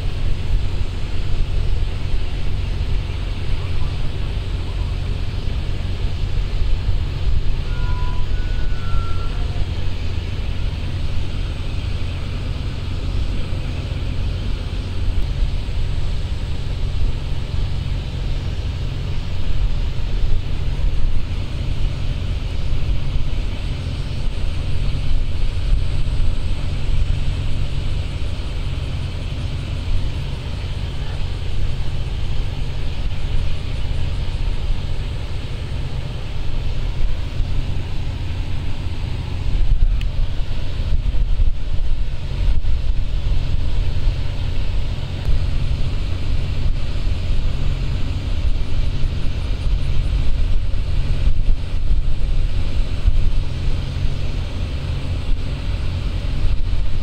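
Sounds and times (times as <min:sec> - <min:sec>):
ship engines rumbling: 0:00.0 - 0:57.0.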